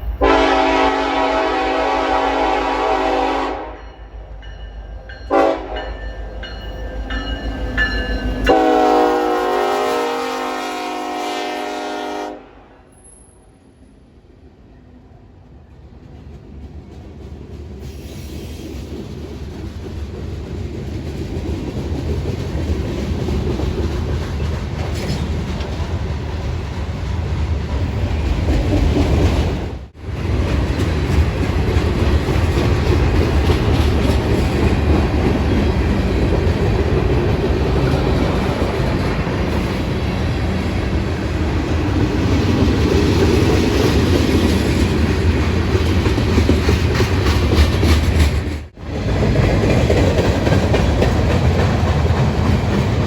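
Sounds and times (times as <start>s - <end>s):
freight train wheels clacking: 0.0s - 10.5s, 15.7s - 53.0s.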